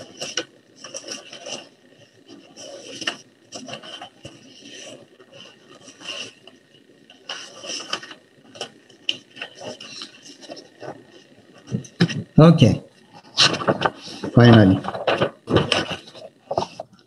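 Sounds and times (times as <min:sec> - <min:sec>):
paper rustling: 0:00.0 - 0:06.6, 0:07.2 - 0:12.3, 0:13.2 - 0:17.0.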